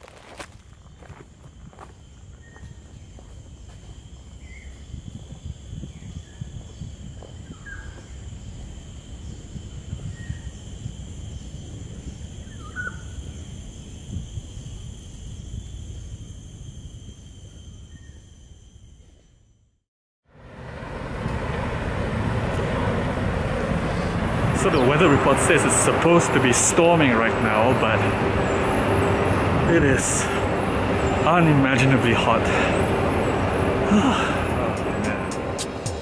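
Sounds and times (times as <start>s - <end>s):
second high insect tone: 0.3s - 19.8s, 24.0s - 36.0s
high-pitched insect drone: 0.6s - 19.8s, 23.9s - 36.0s.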